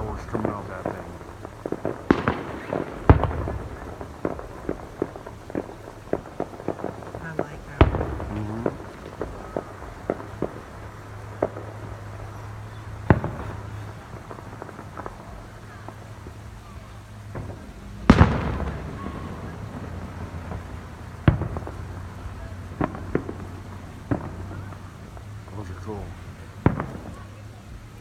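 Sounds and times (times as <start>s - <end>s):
distant fireworks booming: 0.0s - 28.0s
fireworks crackling: 0.0s - 28.0s.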